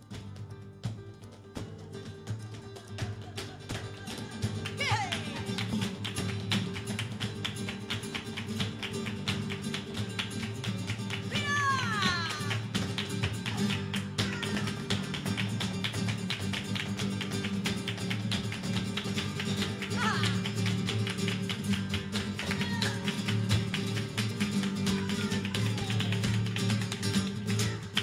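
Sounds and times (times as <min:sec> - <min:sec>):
flamenco guitar fast strumming: 0:00.0 - 0:28.0.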